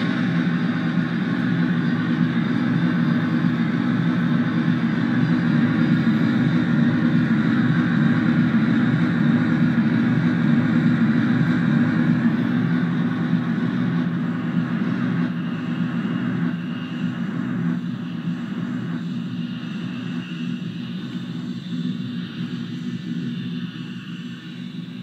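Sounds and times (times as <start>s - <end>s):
synthesizer rumbling noise drone: 0.0s - 25.0s.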